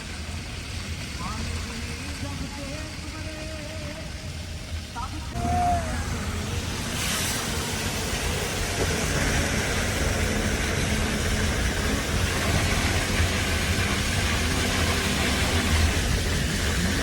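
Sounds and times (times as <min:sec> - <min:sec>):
engine and road rumble: 0:00.0 - 0:17.0
hiss of tyres and air: 0:00.0 - 0:17.0.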